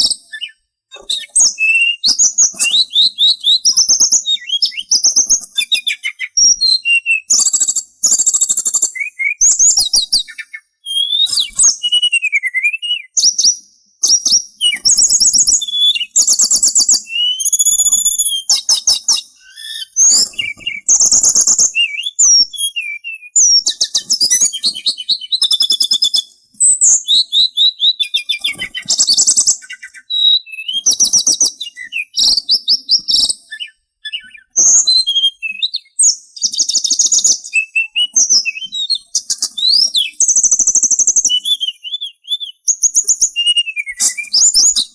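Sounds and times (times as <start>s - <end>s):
songbird trilling and whistling: 0.0s - 44.9s.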